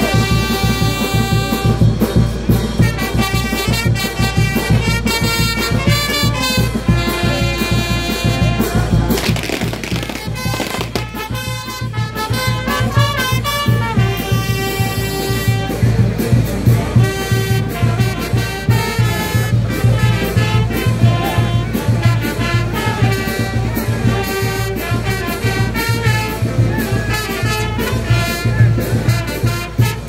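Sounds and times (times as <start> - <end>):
latin brass band music: 0.0 - 30.0.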